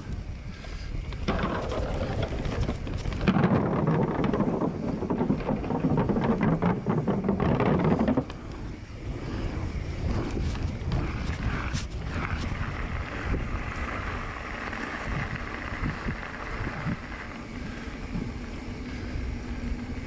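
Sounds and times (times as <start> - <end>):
mountain bike rattling: 0.0 - 20.0
wind buffeting microphone: 0.0 - 20.0.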